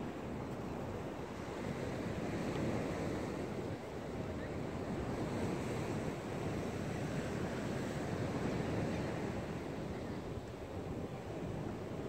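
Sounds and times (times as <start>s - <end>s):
sea surf washing in: 0.0s - 12.0s
wind noise on microphone: 0.0s - 12.0s.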